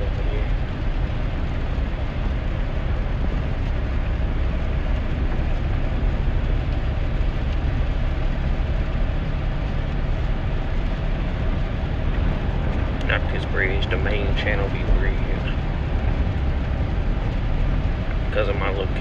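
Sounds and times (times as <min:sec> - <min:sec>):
road noise inside truck cab: 0:00.0 - 0:19.0.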